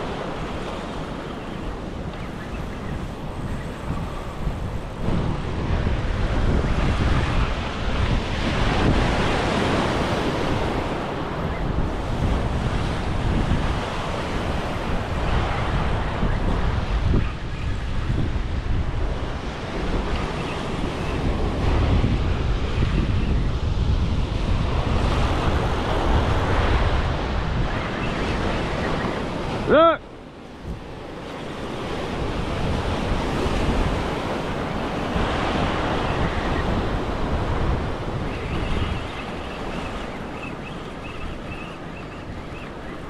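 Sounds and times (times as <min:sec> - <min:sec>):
surf breaking on rocky shore: 0:00.0 - 0:43.0
wind rumbling on microphone: 0:00.0 - 0:43.0.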